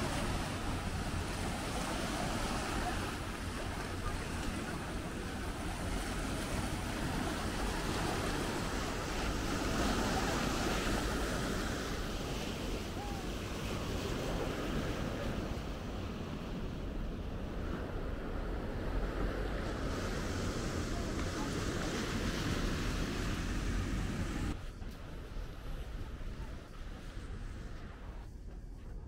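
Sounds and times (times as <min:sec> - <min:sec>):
sea surf washing onto beach: 0:00.0 - 0:28.2
wind on microphone: 0:00.0 - 0:29.0.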